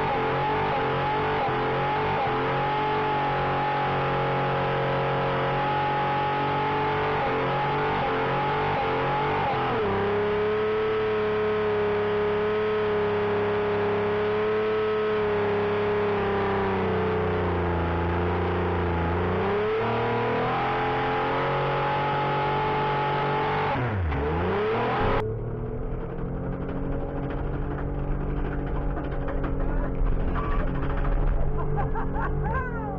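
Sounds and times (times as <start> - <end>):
car engine revving high: 0.0 - 32.3.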